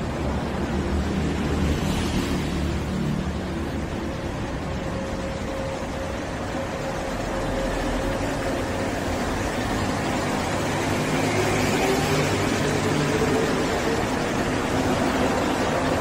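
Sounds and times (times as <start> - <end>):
train pulling out humming: 0.0 - 16.0.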